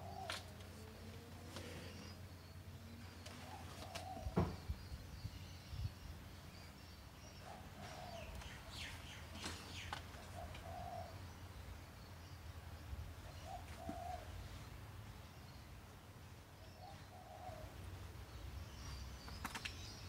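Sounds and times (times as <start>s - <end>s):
birds cooing and chirping: 0.0s - 20.0s.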